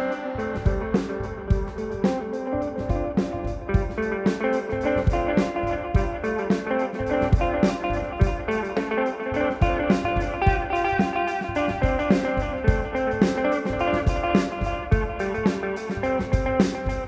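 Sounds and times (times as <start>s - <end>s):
electric guitar sustained notes: 0.0s - 17.0s.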